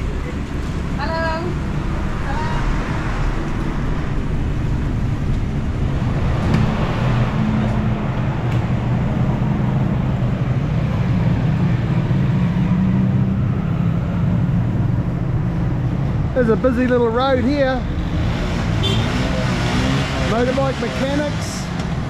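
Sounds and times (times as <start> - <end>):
motorbike and rickshaw engines passing: 0.0 - 22.0.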